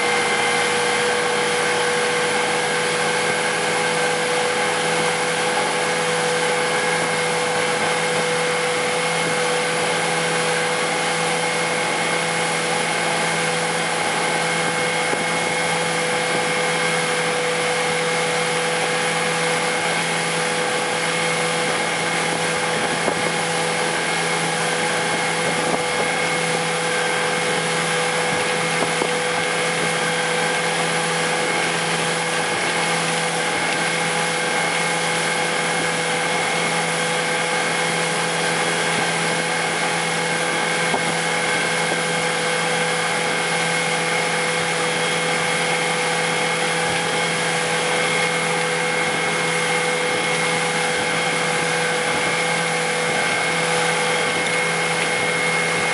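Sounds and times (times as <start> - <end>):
outboard motor running at speed: 0.0 - 55.9
rush of wake water: 0.0 - 55.9.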